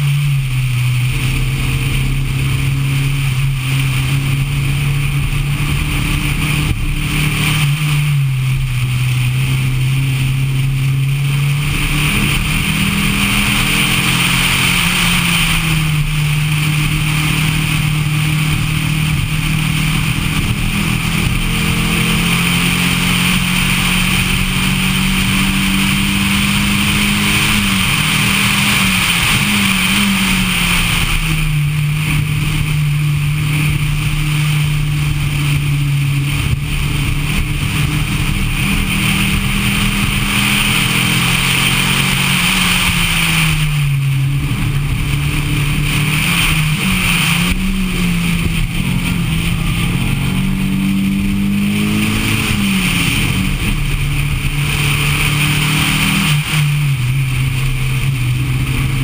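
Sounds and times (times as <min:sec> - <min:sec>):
car engine running hard: 0:00.0 - 0:59.0
wind and road noise: 0:00.0 - 0:59.0.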